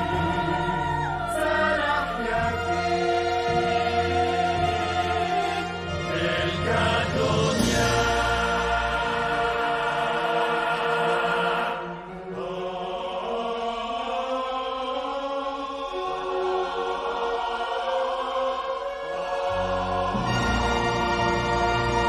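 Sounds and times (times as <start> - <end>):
choir singing sustained chords: 0.0 - 22.0
orchestral film music: 0.0 - 22.0.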